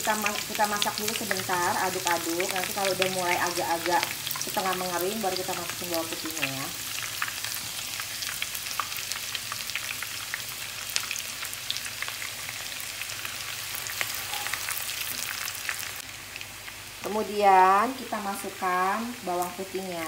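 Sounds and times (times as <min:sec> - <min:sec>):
shallots deep-frying in oil: 0:00.0 - 0:20.0.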